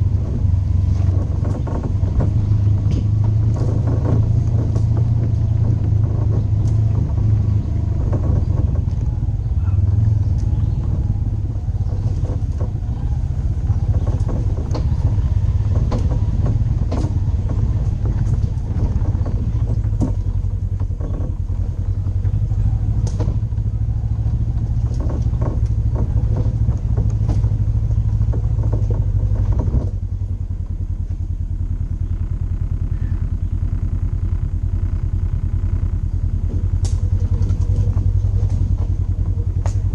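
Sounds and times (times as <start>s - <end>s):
vehicle engine running: 0.0s - 39.9s
vehicle knocks and rattles: 0.0s - 39.9s.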